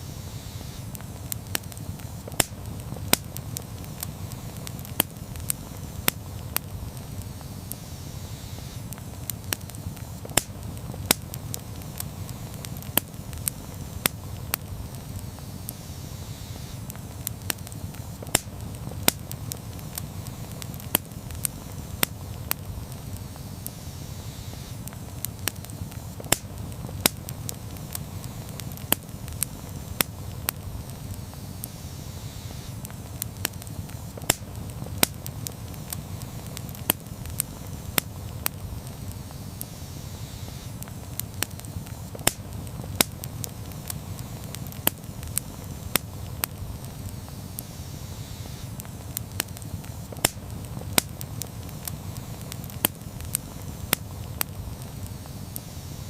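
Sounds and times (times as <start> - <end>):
campfire flames rumbling: 0.0 - 56.0
fire crackles and pops: 0.0 - 56.0.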